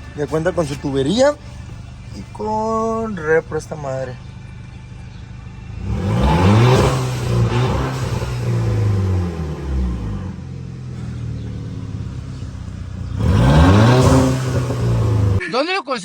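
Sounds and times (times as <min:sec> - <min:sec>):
turbo car engine revving: 0:00.0 - 0:15.4.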